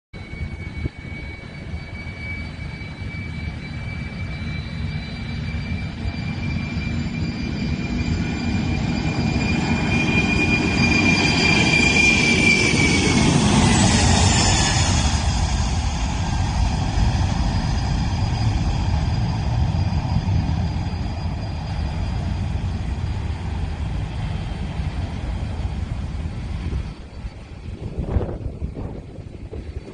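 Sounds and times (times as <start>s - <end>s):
jet engines roaring at takeoff: 0.2s - 29.9s.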